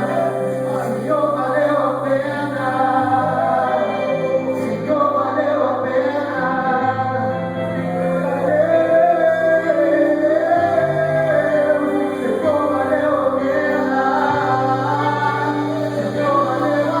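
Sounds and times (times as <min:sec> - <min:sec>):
singers holding wavering notes: 0:00.0 - 0:17.0.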